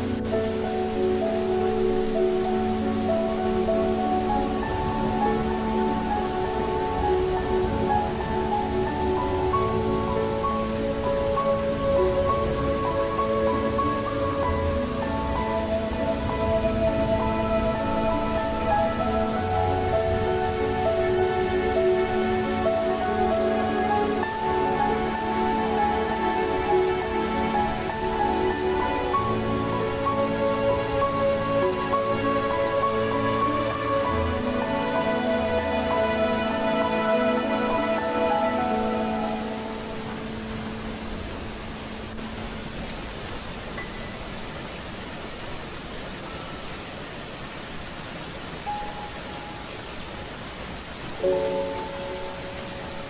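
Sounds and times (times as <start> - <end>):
slow ambient music: 0.0 - 53.0
steady rain: 0.0 - 53.0.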